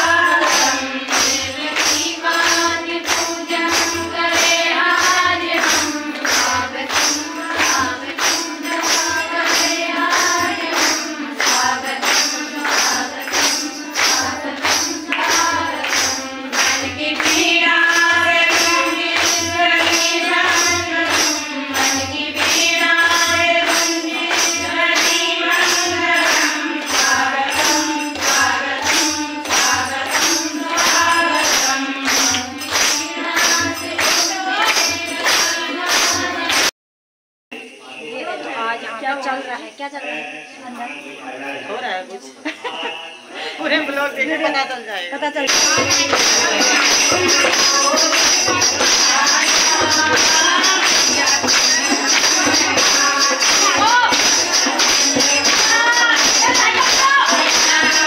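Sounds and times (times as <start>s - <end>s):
percussion beat: 0.0s - 36.7s, 42.5s - 58.0s
voices singing: 0.0s - 36.7s, 37.5s - 58.0s.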